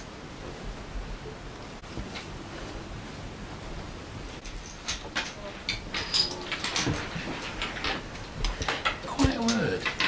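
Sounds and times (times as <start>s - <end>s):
steady low hiss: 0.0s - 10.0s.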